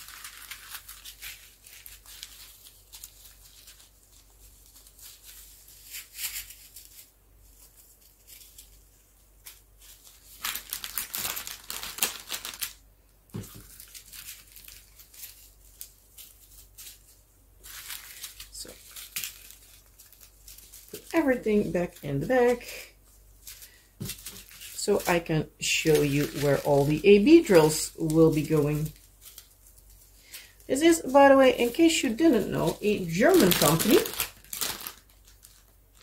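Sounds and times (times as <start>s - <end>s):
plastic bags crinkling: 0.0s - 36.0s.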